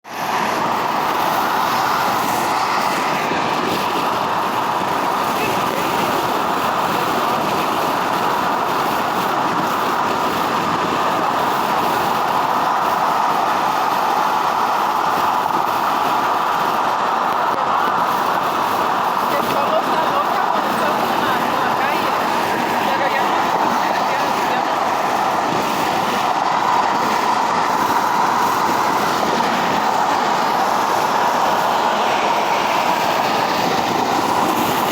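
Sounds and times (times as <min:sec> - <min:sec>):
highway traffic noise: 0:00.0 - 0:34.9.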